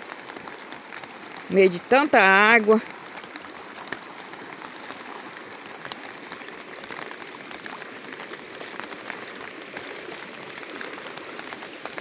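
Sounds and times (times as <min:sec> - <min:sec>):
floodwater running over ground: 0:00.0 - 0:12.0
heavy rain: 0:00.0 - 0:12.0.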